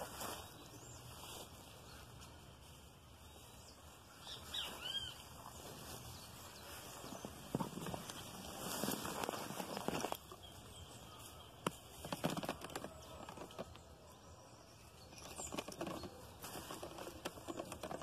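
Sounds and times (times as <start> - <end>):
vegetation rustling and crackling: 0.0 - 13.9, 15.0 - 18.0.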